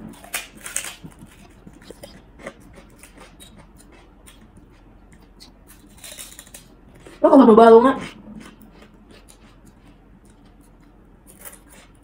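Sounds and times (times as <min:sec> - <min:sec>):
crunching crackers: 0:00.0 - 0:07.2, 0:08.4 - 0:12.0.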